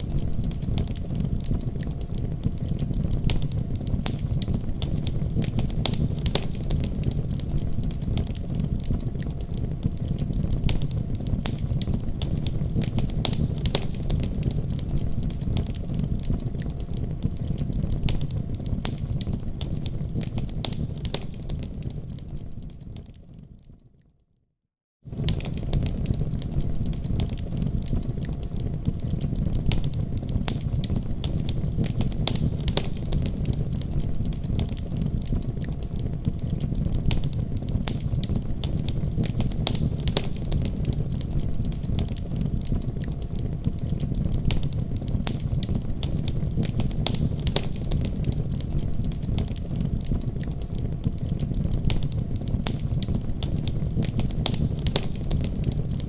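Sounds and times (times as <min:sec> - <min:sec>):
fire crackling and popping: 0:00.0 - 0:24.1, 0:25.1 - 0:56.0.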